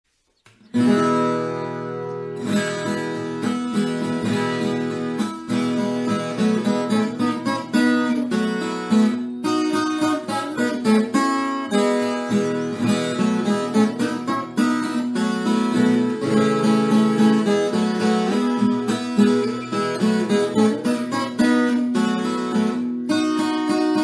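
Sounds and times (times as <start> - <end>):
acoustic guitar picking and strumming: 0.6 - 24.0.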